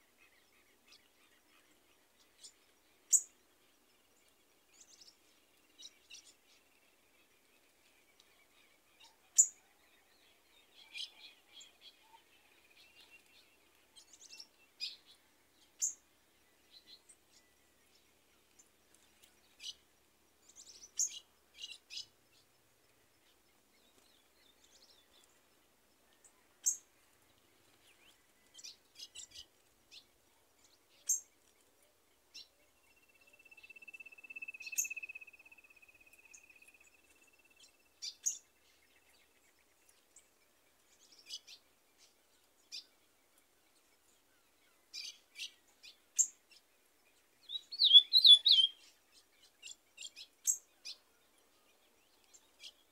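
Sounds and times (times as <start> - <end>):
bird chirps: 0.0 - 52.9
long steady bird trill: 0.0 - 52.9.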